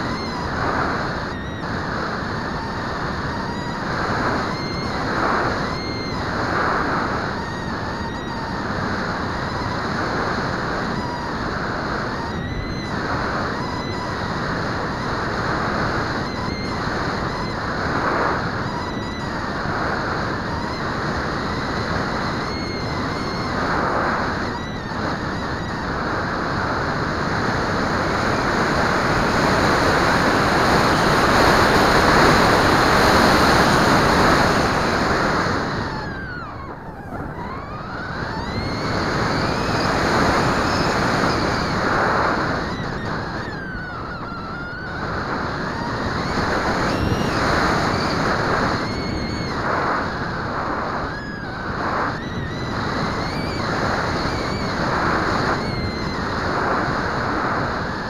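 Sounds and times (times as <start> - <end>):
electric motor and propeller whine: 0.0 - 58.0
wind rushing over camera: 0.0 - 58.0.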